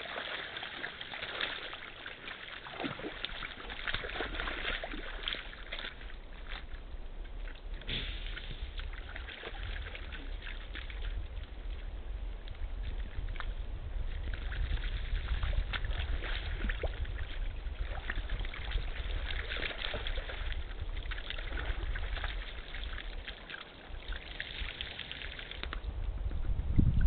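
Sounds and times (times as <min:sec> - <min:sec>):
water sloshing and splashing: 0:00.0 - 0:27.0
steady low rumble: 0:00.8 - 0:27.0.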